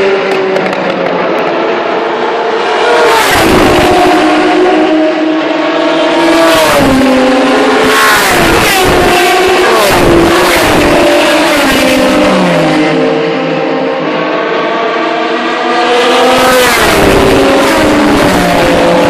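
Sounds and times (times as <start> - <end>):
racing car engines accelerating: 0.0 - 19.0.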